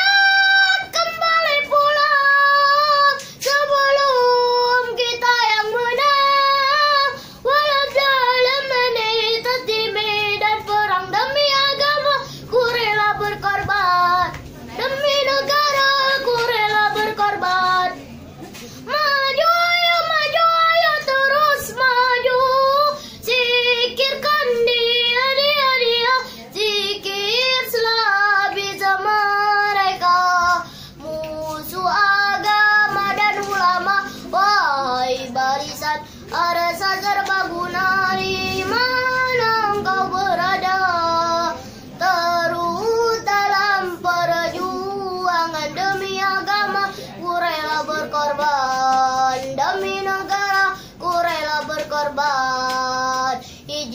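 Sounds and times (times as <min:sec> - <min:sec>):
boy singing unaccompanied: 0:00.0 - 0:53.9.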